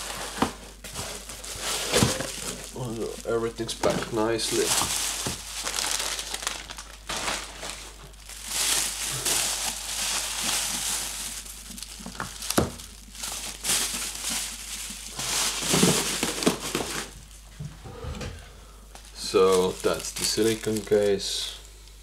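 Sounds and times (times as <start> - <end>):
plastic wrap crinkling: 0.0 - 17.5, 19.0 - 21.6.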